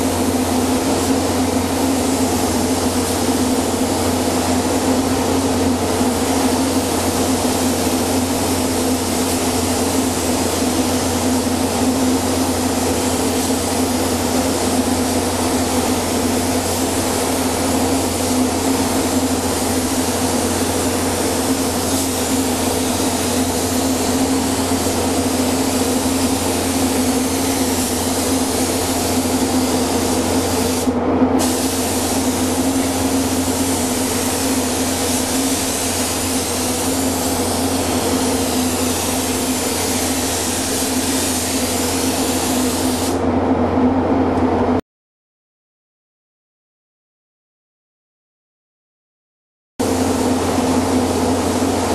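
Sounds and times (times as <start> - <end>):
paint spray gun hissing: 0.0 - 43.2, 49.8 - 51.9.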